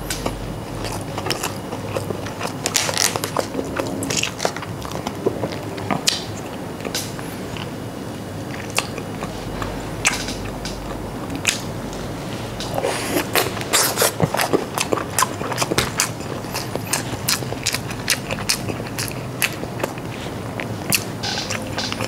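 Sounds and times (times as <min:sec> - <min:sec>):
person biting and chewing: 0:00.0 - 0:07.8, 0:08.5 - 0:11.8, 0:12.6 - 0:22.0.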